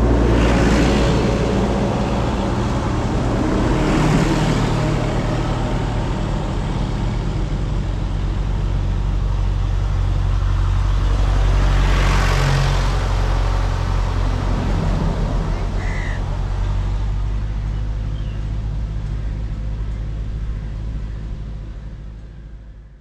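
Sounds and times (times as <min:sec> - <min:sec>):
low engine drone: 0:00.0 - 0:23.0
tractors driving past: 0:00.0 - 0:23.0.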